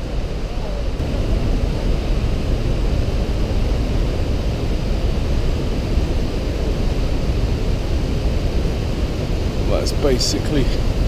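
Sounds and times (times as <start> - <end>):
river torrent roaring: 0.0 - 11.0.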